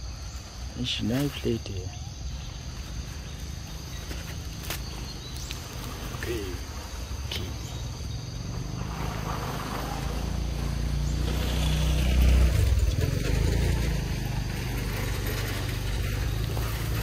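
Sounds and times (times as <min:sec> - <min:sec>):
vehicle passing: 0:02.4 - 0:17.0.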